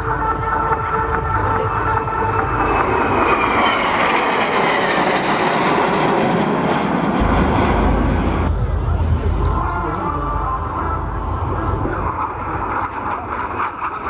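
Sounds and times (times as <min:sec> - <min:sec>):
jet flying past: 0:01.9 - 0:14.0.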